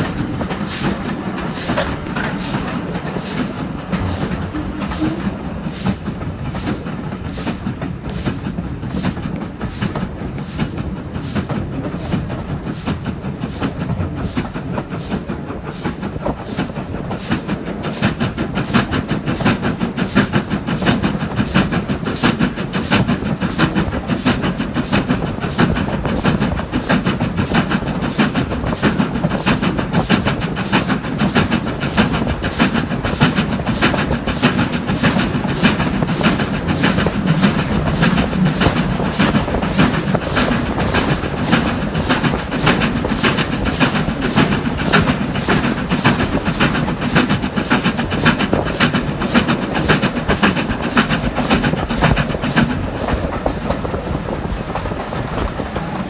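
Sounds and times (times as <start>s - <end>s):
steam locomotive exhaust beats: 0.0s - 56.0s
train coaches rumbling on rails: 0.0s - 56.0s.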